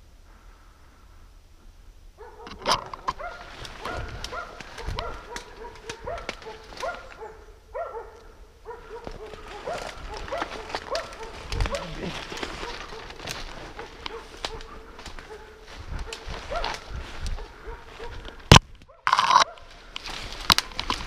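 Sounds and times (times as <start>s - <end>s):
dogs baying and yelping: 2.2s - 19.7s.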